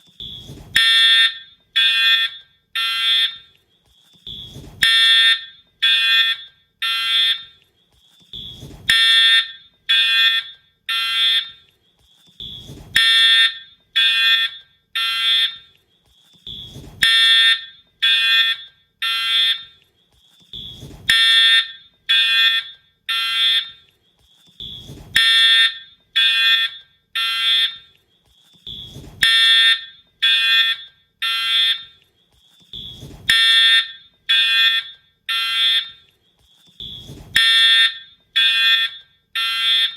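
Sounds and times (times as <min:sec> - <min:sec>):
fire alarm horn blasts: 0:00.0 - 0:03.6, 0:04.2 - 0:07.6, 0:08.3 - 0:11.7, 0:12.4 - 0:15.8, 0:16.4 - 0:19.8, 0:20.5 - 0:23.9, 0:24.6 - 0:28.0, 0:28.6 - 0:32.0, 0:32.7 - 0:36.1, 0:36.8 - 0:39.9.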